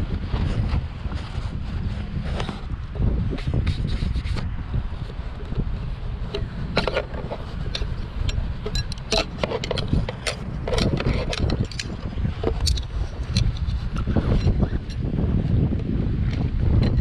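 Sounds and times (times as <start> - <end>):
wind buffeting the microphone: 0.0 - 17.0
clicks and scrapes of handling: 0.3 - 15.0.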